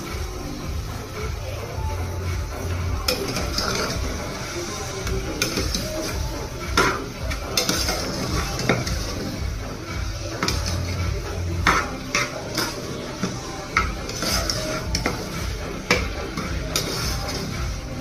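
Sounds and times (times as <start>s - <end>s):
spoon scraping metal pot: 3.0s - 18.0s.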